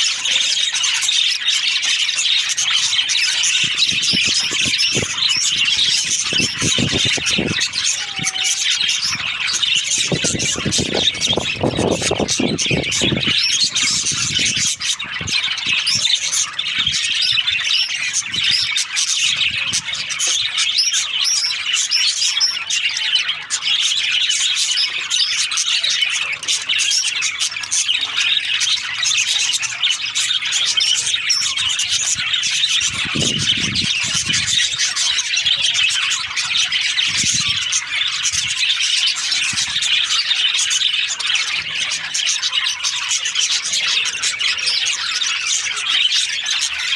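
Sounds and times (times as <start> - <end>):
budgerigars chirping: 0.0 - 46.9.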